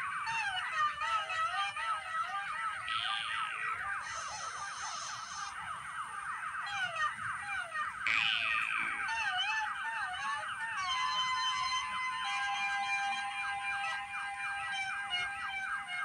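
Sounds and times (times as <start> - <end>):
warbling siren-like tones: 0.0 - 16.0.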